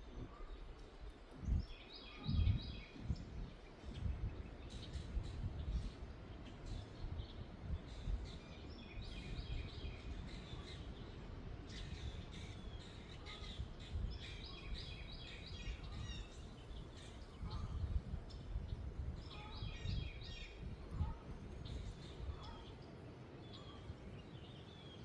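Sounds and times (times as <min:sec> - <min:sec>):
small birds chirping and singing: 0:00.0 - 0:25.0
wind rumble on microphone: 0:00.0 - 0:25.0.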